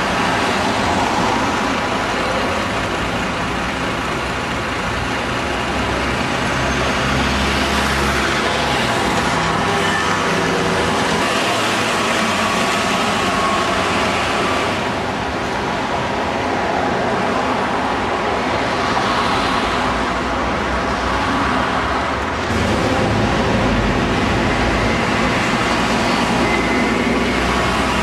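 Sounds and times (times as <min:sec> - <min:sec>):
bus diesel engine rumbling: 0:00.0 - 0:28.0
street traffic: 0:00.0 - 0:28.0.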